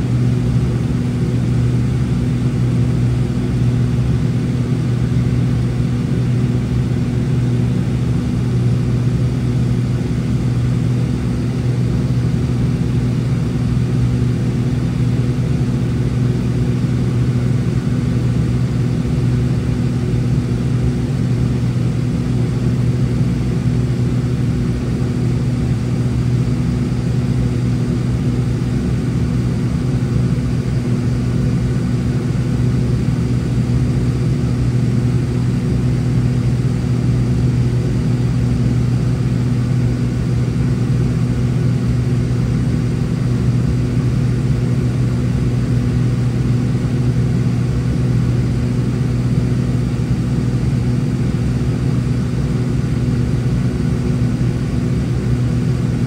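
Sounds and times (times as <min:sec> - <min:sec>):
aircraft engines droning in cabin: 0:00.0 - 0:56.0.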